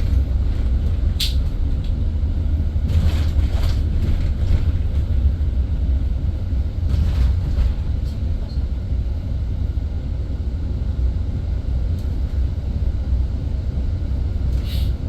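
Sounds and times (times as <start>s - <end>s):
bus road rumble: 0.0s - 15.0s.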